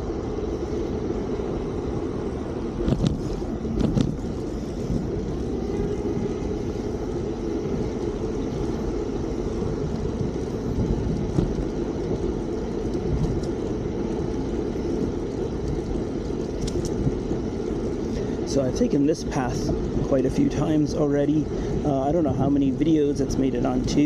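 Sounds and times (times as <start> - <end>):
wind and road noise rumble: 0.0 - 24.0.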